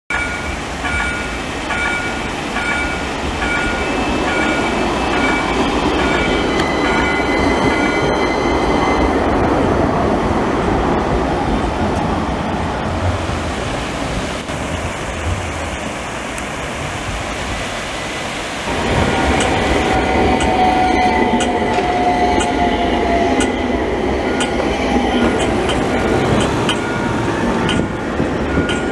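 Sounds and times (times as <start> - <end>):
tram wheels rumbling: 0.1 - 28.9.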